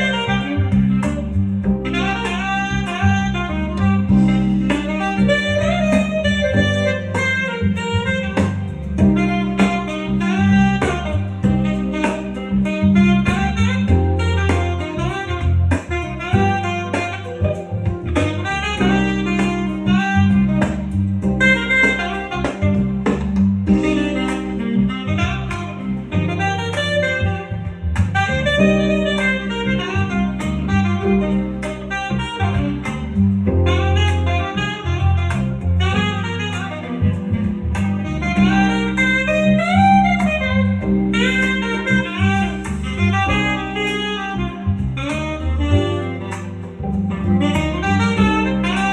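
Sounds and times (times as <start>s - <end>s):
bass line: 0.0s - 48.9s
saxophone: 0.0s - 48.9s.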